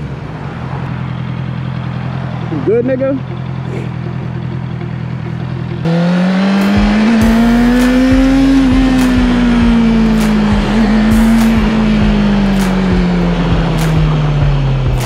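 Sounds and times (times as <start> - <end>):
motorcycle engine revving: 0.9 - 15.0.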